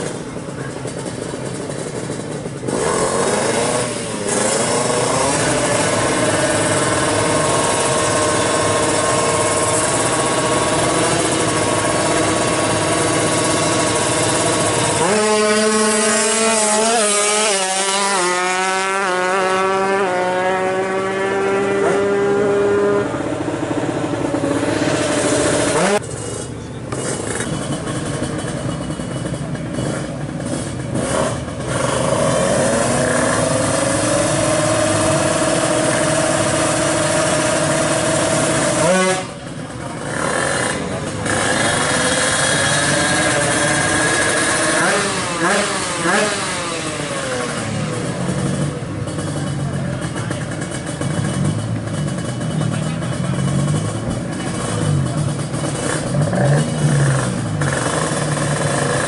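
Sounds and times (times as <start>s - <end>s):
motorcycles revving at full throttle: 0.0s - 59.0s.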